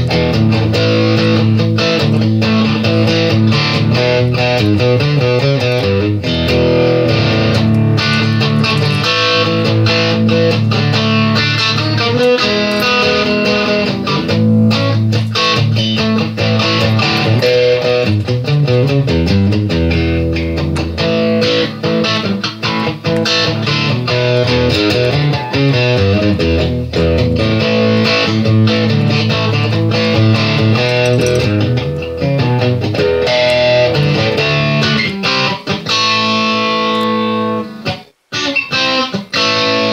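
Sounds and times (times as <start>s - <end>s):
instrumental guitar music: 0.0s - 39.9s.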